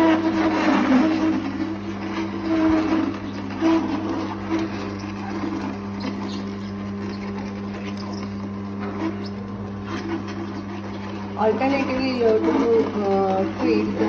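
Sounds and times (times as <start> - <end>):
crackles and crunches of crushing fruit: 0.0 - 11.4
juicer motor hum: 0.0 - 14.0.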